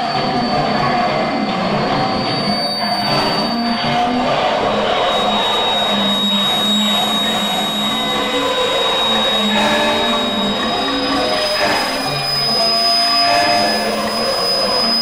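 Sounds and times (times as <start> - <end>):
electric guitar noise drone: 0.0 - 15.0
thin high steady tone: 0.0 - 15.0.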